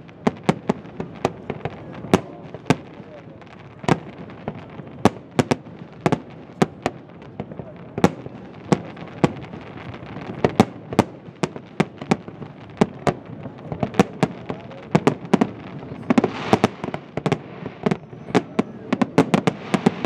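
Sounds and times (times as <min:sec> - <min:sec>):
firework bangs: 0:00.0 - 0:20.0
firework crackle and rumble: 0:00.0 - 0:20.0.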